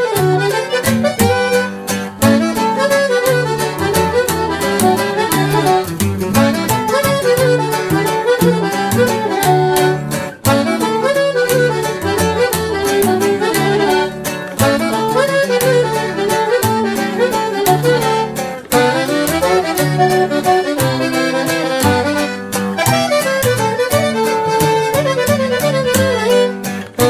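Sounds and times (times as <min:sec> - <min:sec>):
button accordion melody: 0:00.0 - 0:27.0
guitar strumming: 0:00.0 - 0:27.0
plucked upright bass: 0:00.0 - 0:27.0
saxophone: 0:00.0 - 0:27.0.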